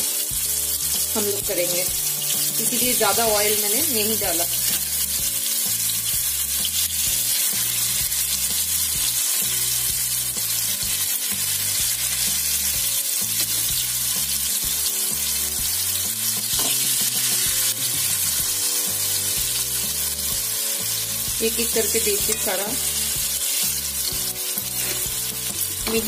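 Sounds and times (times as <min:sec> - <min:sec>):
chicken sizzling in frying pan: 0:00.0 - 0:26.0.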